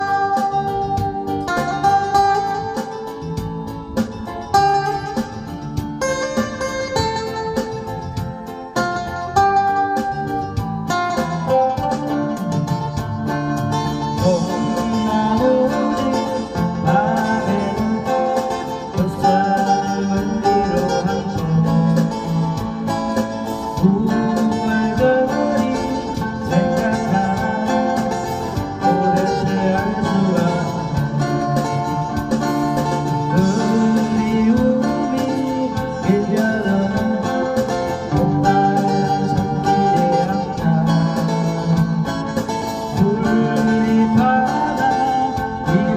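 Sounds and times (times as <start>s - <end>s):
guitar playing melody over chords: 0.0s - 45.9s.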